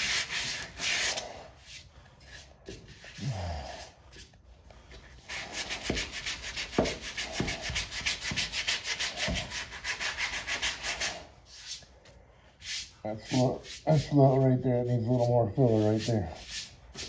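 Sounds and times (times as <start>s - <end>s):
sanding block strokes: 0.0s - 3.2s, 5.1s - 11.8s, 12.6s - 17.0s.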